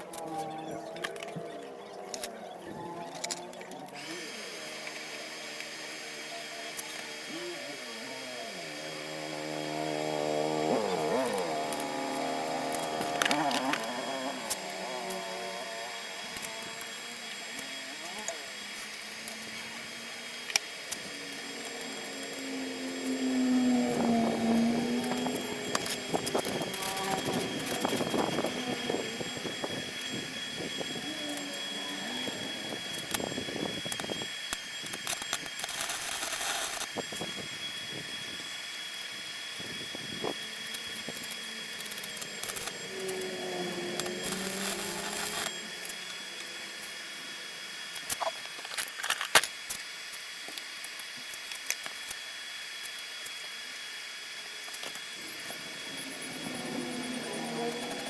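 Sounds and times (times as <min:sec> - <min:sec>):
motor high whine: 0:00.0 - 0:58.0.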